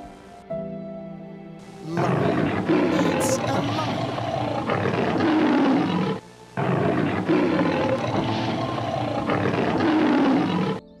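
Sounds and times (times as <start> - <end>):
lion roaring: 1.7 - 11.0.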